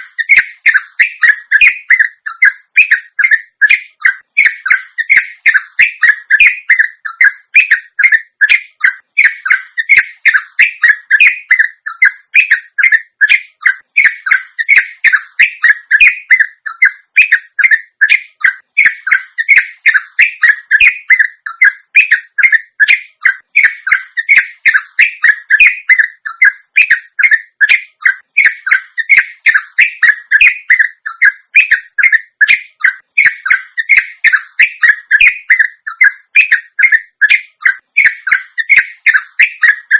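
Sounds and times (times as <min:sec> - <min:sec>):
bulbul sweeping chirps: 0:00.0 - 0:39.9.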